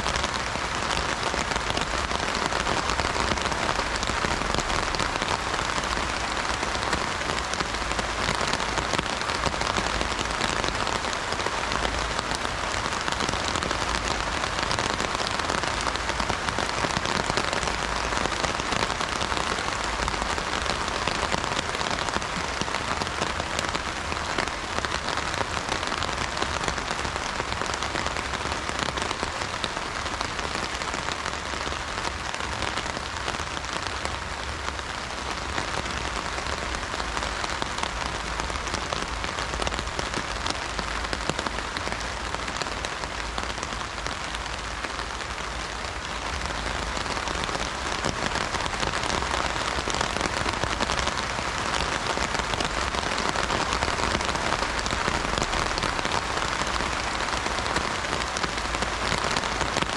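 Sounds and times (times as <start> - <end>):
heavy rain on an umbrella: 0.0 - 59.9.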